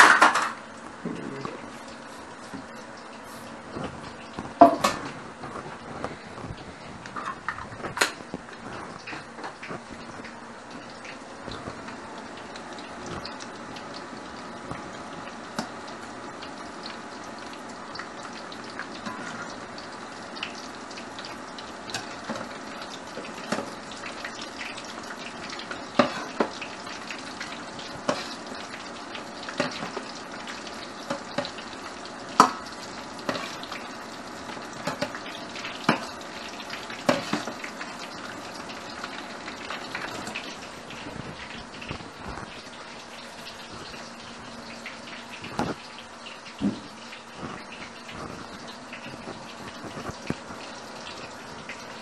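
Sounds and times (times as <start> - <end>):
chicken deep-frying in oil: 0.0 - 52.0.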